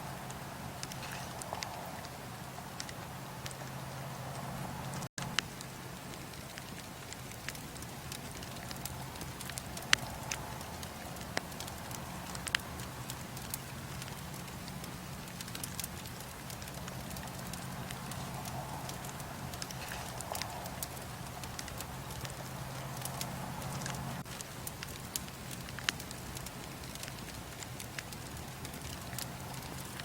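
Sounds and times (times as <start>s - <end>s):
fire crackling and popping: 0.0s - 30.0s
flames rushing: 0.0s - 30.0s.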